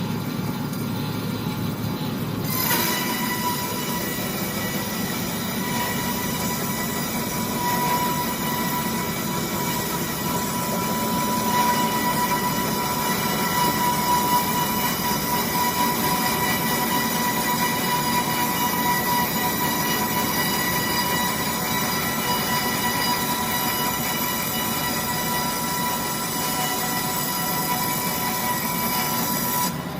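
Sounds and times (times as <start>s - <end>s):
sawmill machine noise: 0.0s - 29.9s
band saw blade whining: 0.6s - 29.9s.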